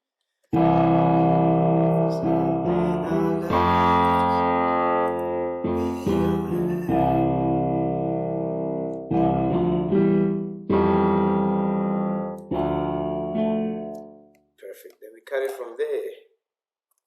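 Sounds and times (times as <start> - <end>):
keyboard chords: 0.5 - 14.4.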